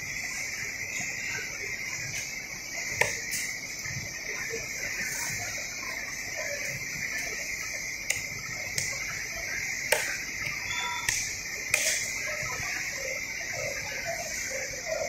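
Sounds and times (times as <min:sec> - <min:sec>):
high-pitched background hiss: 0:00.0 - 0:15.0.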